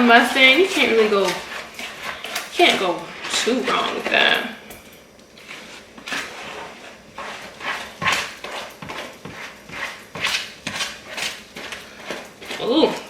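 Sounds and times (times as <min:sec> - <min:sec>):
spoon stirring batter in bowl: 0:00.0 - 0:13.0.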